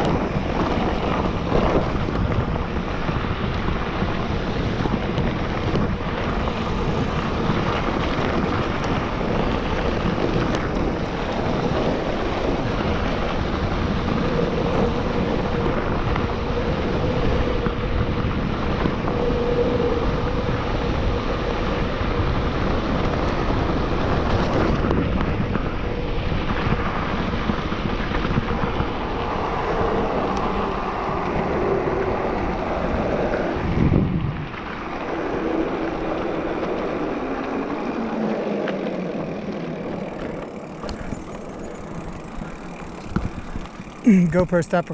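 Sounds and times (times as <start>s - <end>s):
tyres rumbling on dirt trail: 0.0s - 44.9s
wind buffeting microphone: 0.0s - 44.9s.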